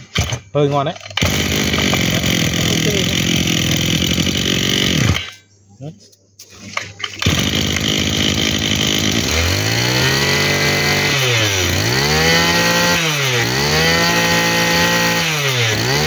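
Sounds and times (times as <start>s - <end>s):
brush cutter engine revving: 0.0s - 5.5s, 6.6s - 16.0s.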